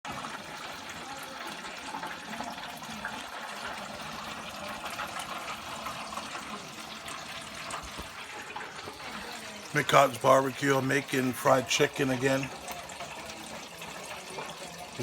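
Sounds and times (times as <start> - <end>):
chicken sizzling in hot oil: 0.1 - 15.0.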